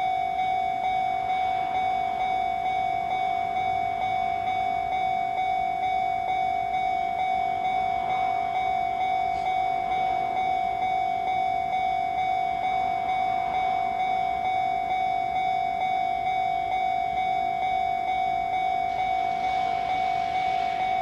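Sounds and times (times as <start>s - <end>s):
level crossing warning bell ringing: 0.0s - 21.0s.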